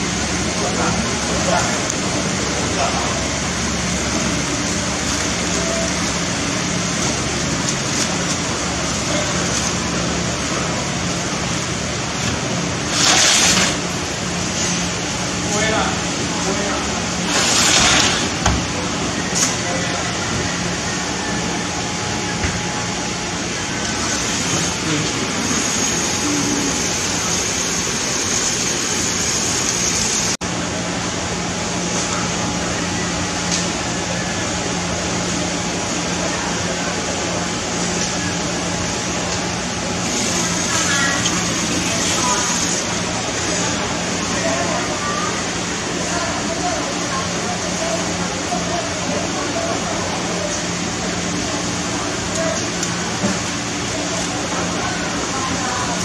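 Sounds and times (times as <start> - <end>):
low machine hum: 0.0 - 56.0
shop background hiss: 0.0 - 56.0.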